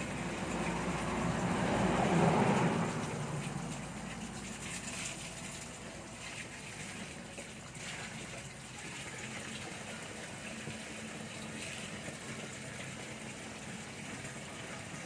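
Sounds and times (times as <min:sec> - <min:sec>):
water running from a tap: 0:00.0 - 0:15.0.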